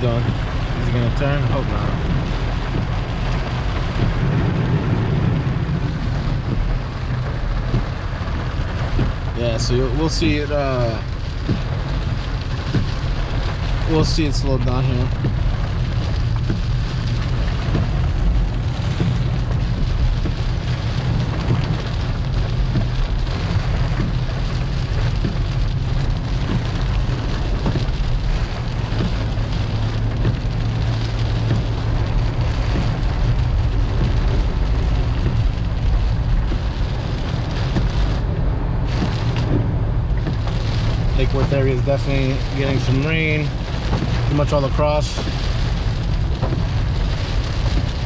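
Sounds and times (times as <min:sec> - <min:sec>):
rain on a car: 0:00.0 - 0:48.0
road and engine rumble: 0:00.0 - 0:48.0.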